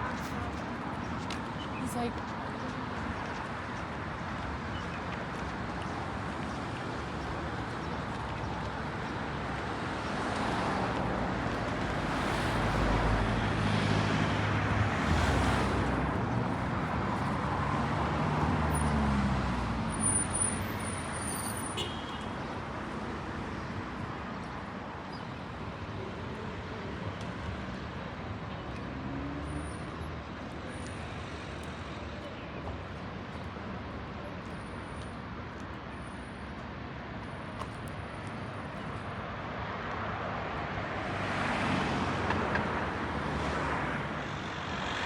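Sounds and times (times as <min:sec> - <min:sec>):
background traffic: 0:00.0 - 0:45.0.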